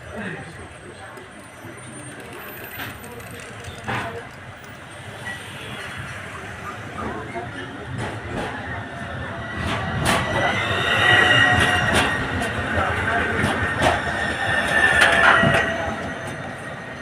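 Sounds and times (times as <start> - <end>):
tram running rumble: 0.0 - 17.0
tram wheels squealing on rails: 0.0 - 17.0.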